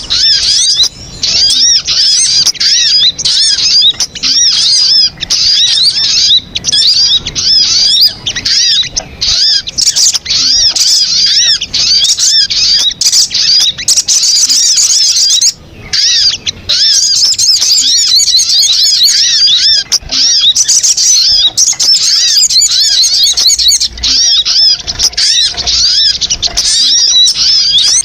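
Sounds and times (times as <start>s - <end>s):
birds chirping chatter: 0.0s - 28.0s.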